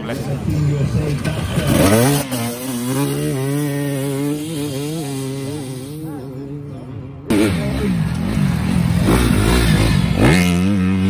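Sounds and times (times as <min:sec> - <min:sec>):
motorcycle engine running: 0:01.0 - 0:11.0.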